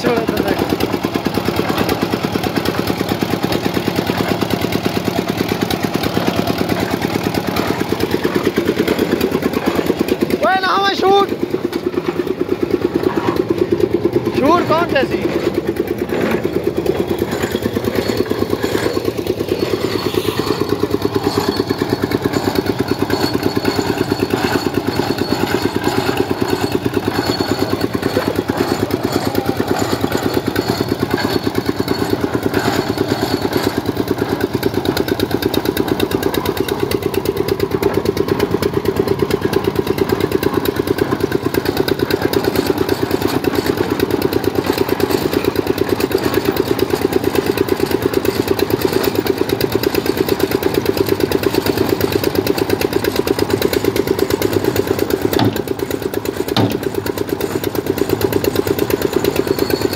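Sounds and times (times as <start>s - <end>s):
concrete mixer engine running: 0.0s - 59.9s.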